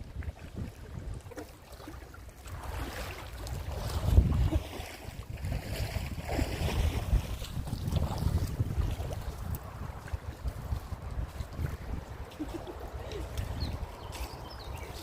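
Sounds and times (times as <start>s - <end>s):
wind buffeting microphone: 0.0s - 1.5s, 2.4s - 15.0s
lake water splashing: 0.0s - 15.0s.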